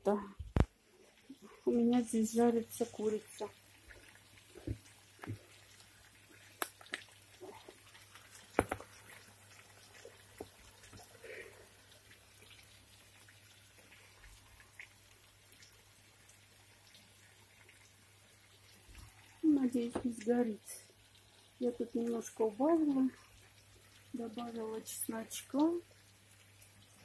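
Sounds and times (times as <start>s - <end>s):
chicken sizzling in a pan: 0.8s - 27.0s.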